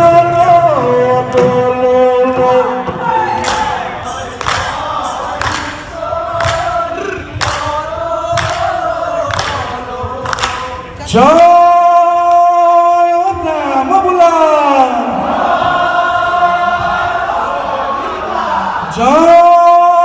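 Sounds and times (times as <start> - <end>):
men singing together: 0.0 - 13.2, 15.0 - 20.0.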